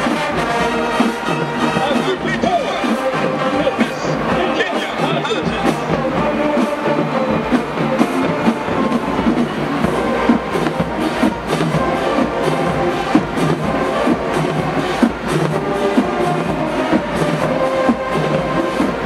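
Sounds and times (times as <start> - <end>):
brass chords: 0.0 - 19.0
drumline beat: 0.0 - 19.0.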